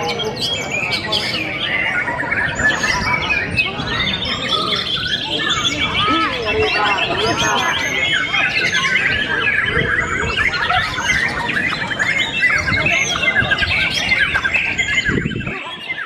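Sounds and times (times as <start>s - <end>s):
songbird chorus chirping and trilling: 0.0s - 16.0s.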